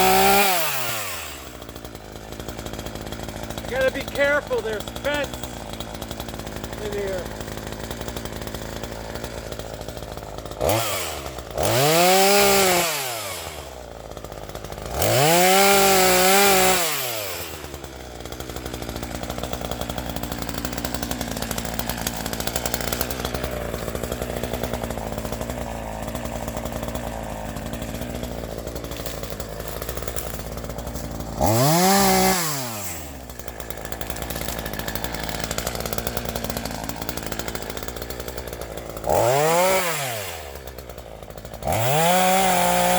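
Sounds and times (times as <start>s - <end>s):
chainsaw idling and revving: 0.0s - 42.9s.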